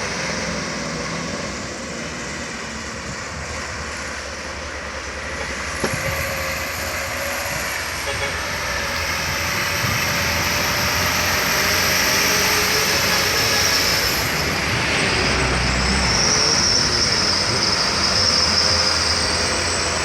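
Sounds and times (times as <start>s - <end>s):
road and wind noise: 0.0s - 20.0s
truck engine running under load: 0.0s - 20.0s.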